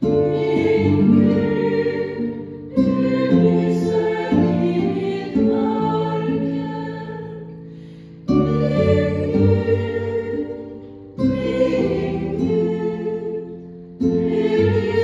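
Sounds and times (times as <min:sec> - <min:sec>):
plucked string chords: 0:00.0 - 0:15.0
slow chant singing: 0:00.2 - 0:07.6, 0:08.3 - 0:15.0.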